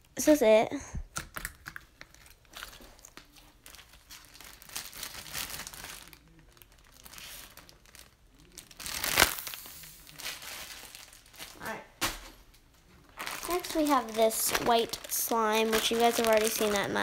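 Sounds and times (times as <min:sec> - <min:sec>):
slime squishing and crackling: 0:01.1 - 0:11.8, 0:13.1 - 0:17.0.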